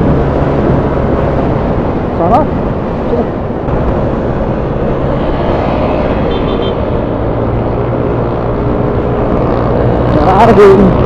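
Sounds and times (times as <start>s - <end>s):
road noise: 0.0s - 11.0s
scooter engine hum: 0.0s - 11.0s
wind noise: 0.0s - 11.0s.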